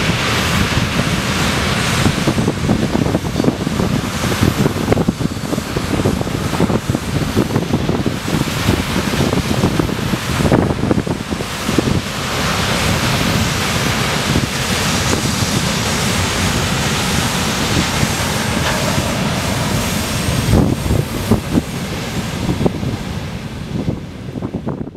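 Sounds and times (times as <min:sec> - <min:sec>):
freight train rolling past: 0:00.0 - 0:24.9
wind buffeting microphone: 0:00.0 - 0:24.9.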